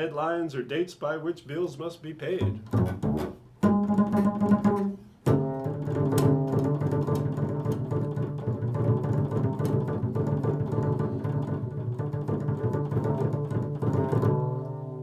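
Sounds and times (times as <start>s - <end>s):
low string-like instrumental music: 2.5s - 15.0s.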